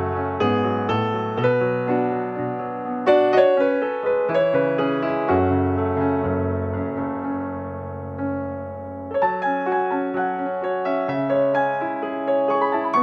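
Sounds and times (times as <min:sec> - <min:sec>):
piano notes and chords: 0:00.0 - 0:13.0.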